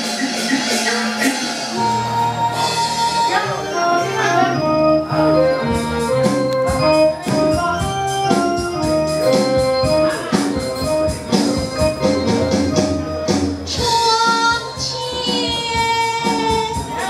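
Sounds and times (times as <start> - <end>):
electronic keyboard organ melody: 0.0 - 14.6
steady percussion beat: 0.0 - 17.0.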